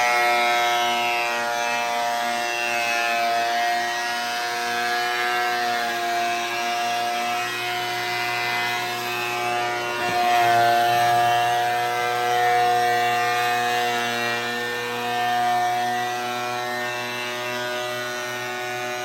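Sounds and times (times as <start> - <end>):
planer running: 0.0 - 19.0
shop vac running: 0.0 - 19.0.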